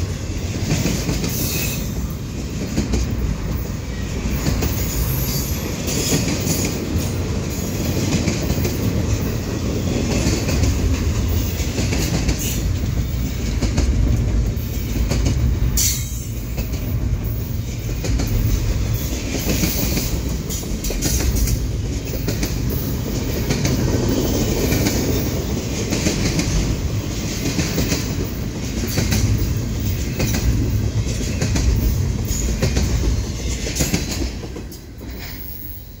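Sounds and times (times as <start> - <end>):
train cars rumbling: 0.0 - 36.0.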